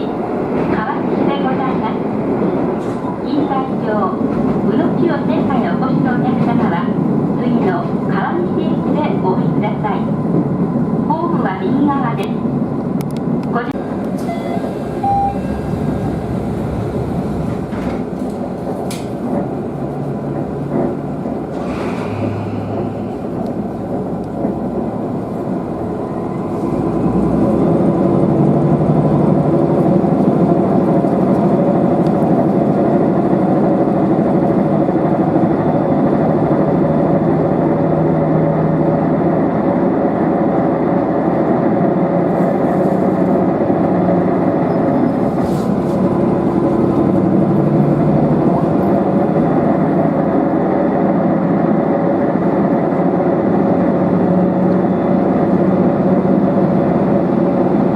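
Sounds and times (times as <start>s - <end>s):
diesel railcar engine and wheels: 0.0s - 57.9s.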